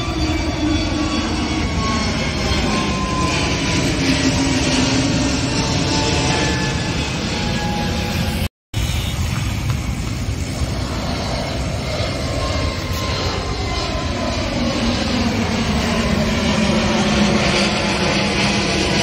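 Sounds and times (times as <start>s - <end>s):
jet engine climbing: 0.0s - 19.0s.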